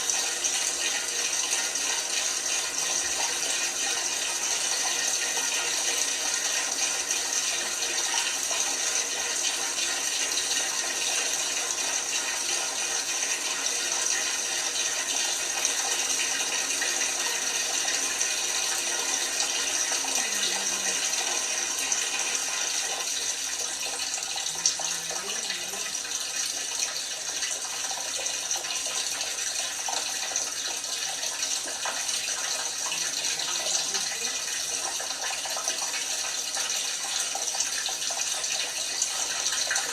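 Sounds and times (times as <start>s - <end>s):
water running into washing machine: 0.0s - 39.9s.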